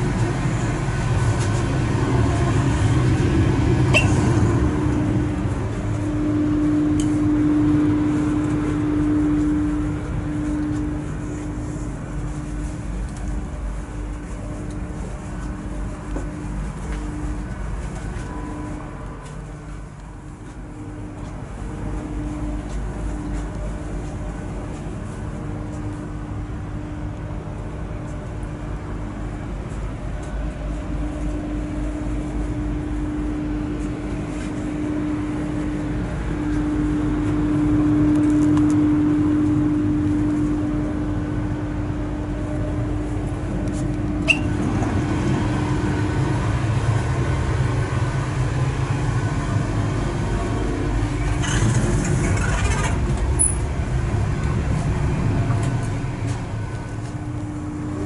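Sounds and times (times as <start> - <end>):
humming tone: 0.0 - 58.0
train cabin rumble: 0.0 - 58.0.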